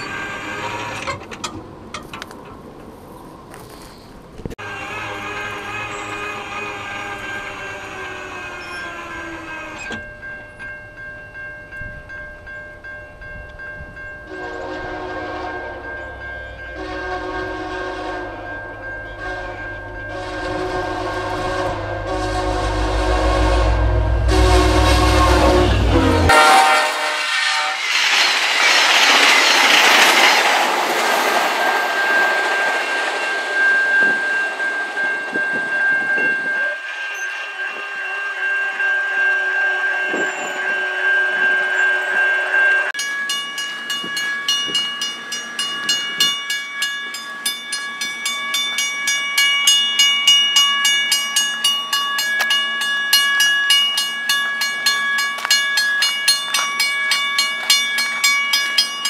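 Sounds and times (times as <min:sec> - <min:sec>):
passenger train passing: 0:00.0 - 0:59.0
level-crossing warning bell: 0:04.6 - 0:59.0.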